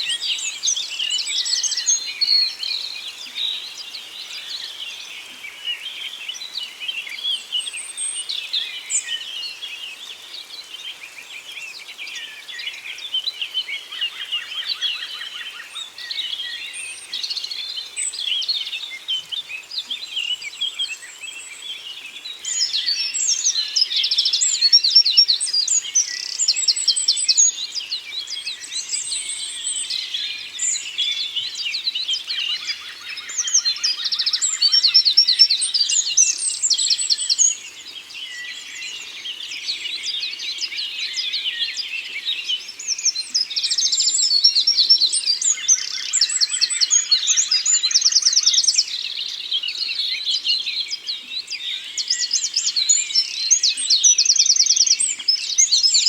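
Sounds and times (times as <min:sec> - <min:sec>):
songbirds singing and chirping: 0:00.0 - 0:56.0.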